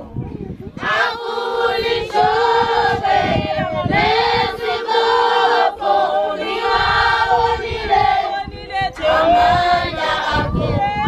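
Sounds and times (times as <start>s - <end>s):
children's choir singing: 0.8s - 11.0s.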